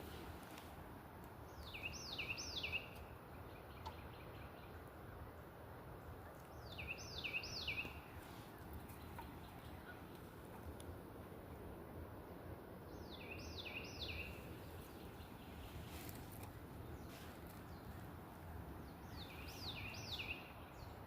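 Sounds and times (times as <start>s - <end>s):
low outdoor background noise: 0.0s - 21.0s
songbird singing: 0.0s - 21.0s.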